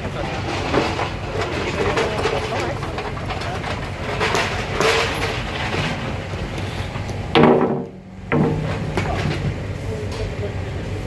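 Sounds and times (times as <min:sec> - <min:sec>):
tools and metal parts clattering: 0:00.0 - 0:09.6
steady background hum: 0:00.0 - 0:11.0.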